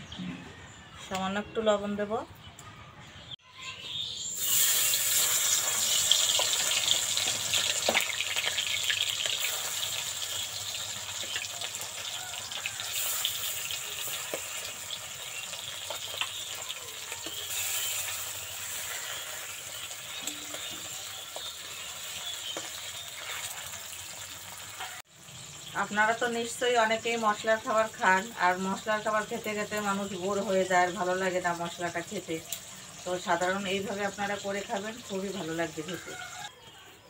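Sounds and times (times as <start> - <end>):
fish frying in oil: 4.4 - 36.5.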